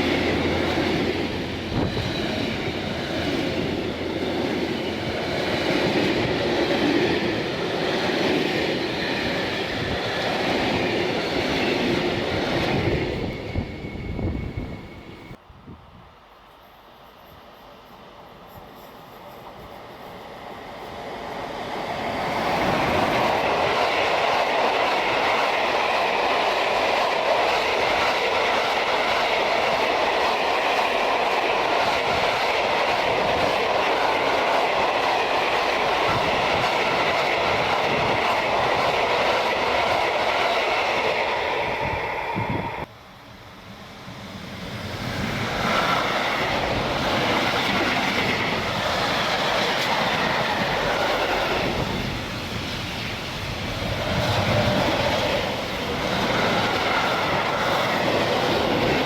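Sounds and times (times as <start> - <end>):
train passing on rails: 0.0 - 59.0.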